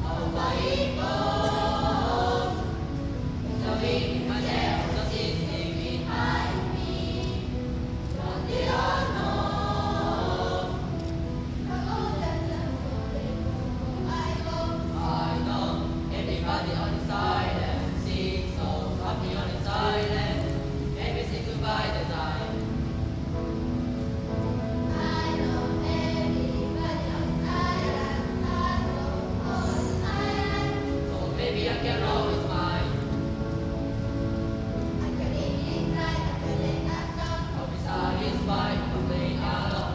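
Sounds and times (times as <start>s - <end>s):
choir singing in parts: 0.0s - 23.6s, 24.2s - 39.9s.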